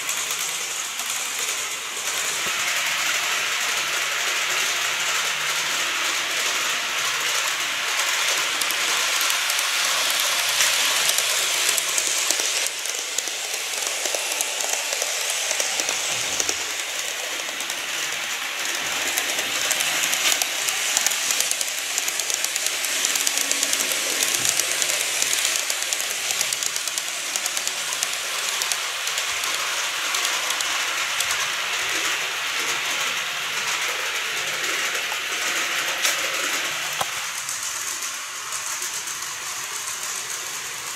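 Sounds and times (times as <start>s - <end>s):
model train wheels rattling: 0.0s - 40.9s
wheels clicking over rail joints: 0.0s - 40.9s.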